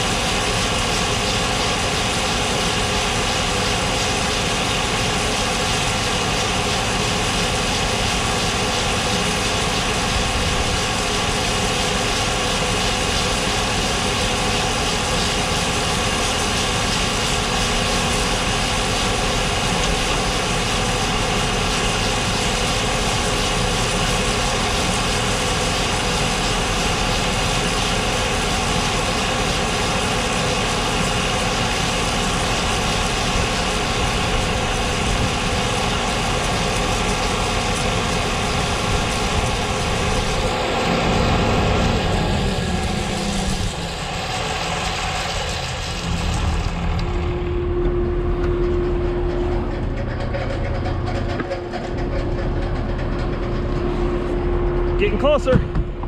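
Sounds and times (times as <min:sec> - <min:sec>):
grain auger carrying corn: 0:00.0 - 0:56.0
tractor diesel engine running: 0:00.0 - 0:56.0.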